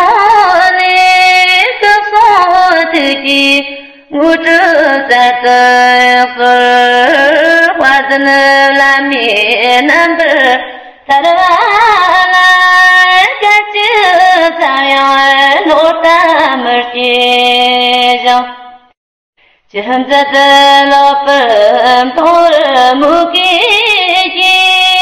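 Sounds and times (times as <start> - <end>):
woman singing a prayer: 0.0 - 18.8, 19.7 - 25.0.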